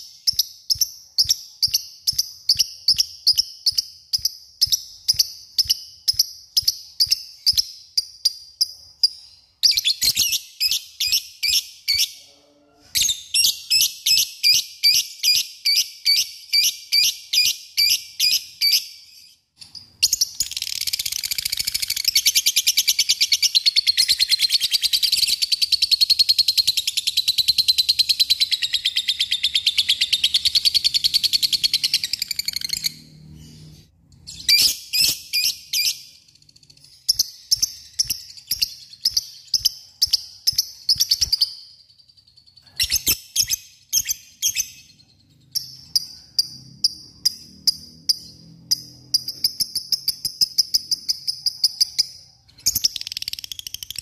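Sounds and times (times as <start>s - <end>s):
lovebird chirping and chattering: 0.0s - 12.2s, 12.9s - 54.0s.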